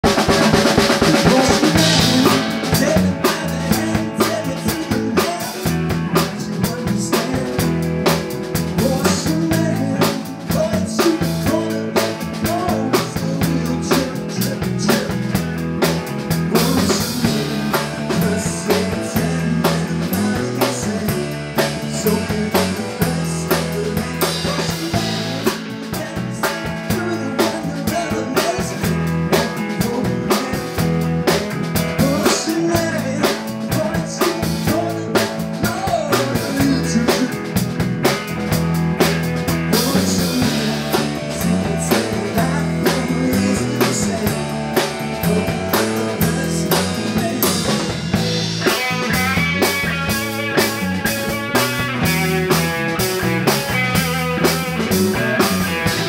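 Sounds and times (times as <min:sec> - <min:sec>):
drum kit beat: 0:00.0 - 0:56.0
electric bass: 0:00.0 - 0:56.0
electric guitar: 0:00.0 - 0:56.0.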